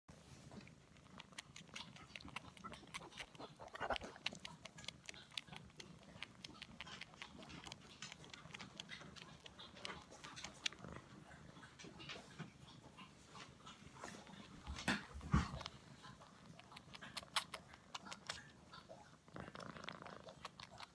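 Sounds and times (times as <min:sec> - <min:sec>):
kitten sucking paw clicks: 0:00.6 - 0:11.2, 0:14.0 - 0:20.9.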